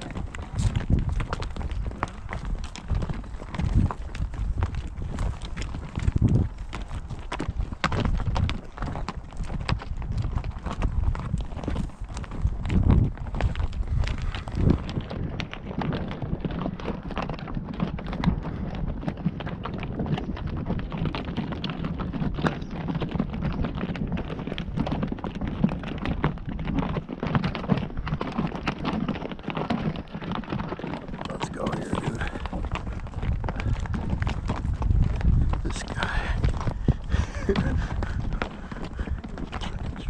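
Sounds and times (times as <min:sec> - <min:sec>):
horse hooves clip-clopping: 0:00.0 - 0:40.0.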